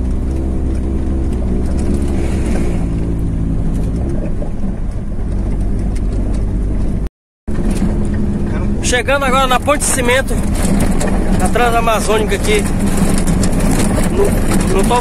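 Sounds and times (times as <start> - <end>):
car engine running: 0.0 - 15.0
tyres rolling on dirt road: 0.0 - 15.0.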